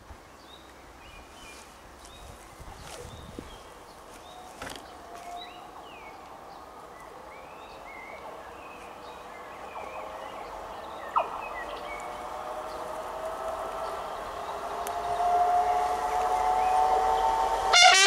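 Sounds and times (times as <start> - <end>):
birds chirping: 0.3 - 17.7
train hum: 1.7 - 18.0.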